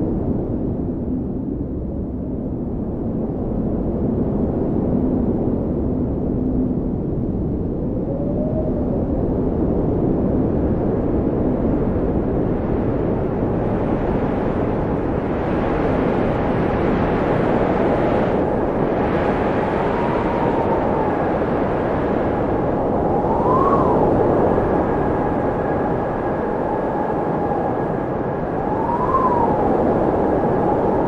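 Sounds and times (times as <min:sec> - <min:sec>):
wind blowing with faint whistle: 0:00.0 - 0:31.0.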